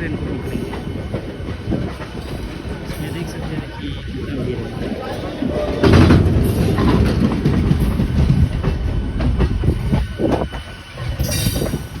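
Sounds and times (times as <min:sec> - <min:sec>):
train rumble: 0:00.0 - 0:12.0
train wheels clattering: 0:00.0 - 0:12.0.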